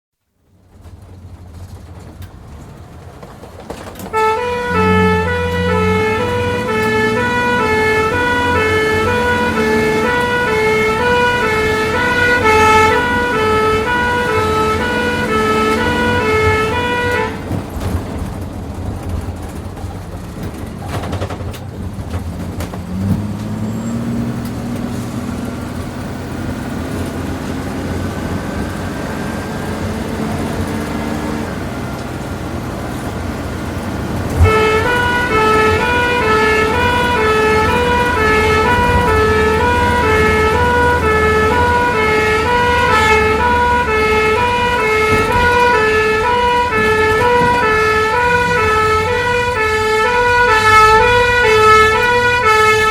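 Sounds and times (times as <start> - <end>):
road noise: 0.2 - 52.9
vehicle engine running: 0.3 - 52.9
two-tone ambulance siren: 4.1 - 18.1, 23.0 - 52.9.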